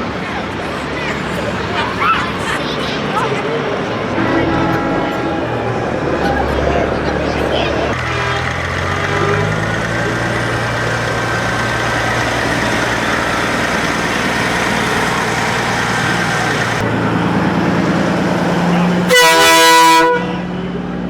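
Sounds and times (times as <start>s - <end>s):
diesel truck engine idling: 0.0s - 20.6s.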